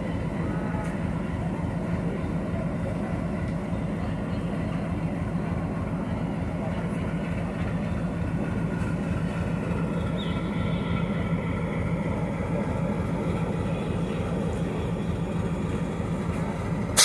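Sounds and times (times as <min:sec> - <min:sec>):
locomotive engine idling: 0:00.0 - 0:17.0.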